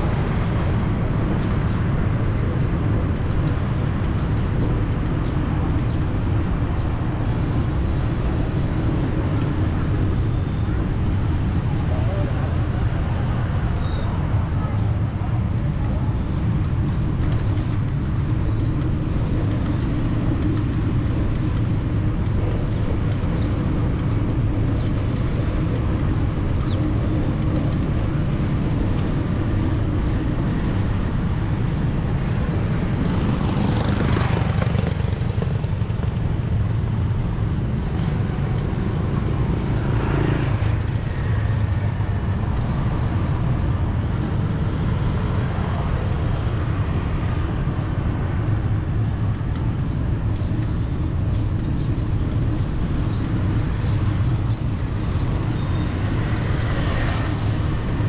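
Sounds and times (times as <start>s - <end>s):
road traffic rumble: 0.0s - 58.0s.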